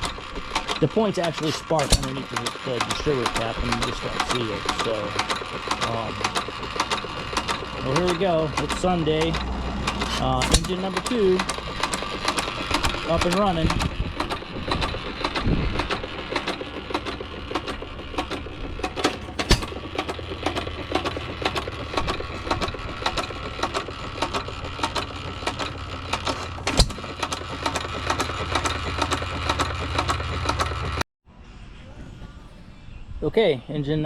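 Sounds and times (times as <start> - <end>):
engine bangs: 0.0 - 31.0
stationary gas engine running: 0.0 - 31.0.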